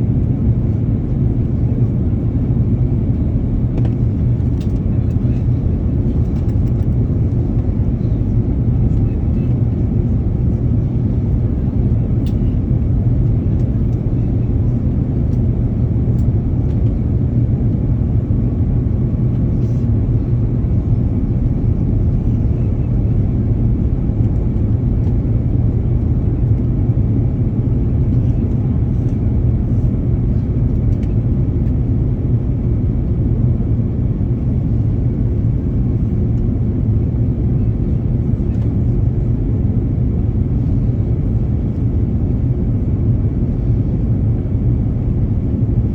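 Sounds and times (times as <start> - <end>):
airplane rumble: 0.0 - 45.9.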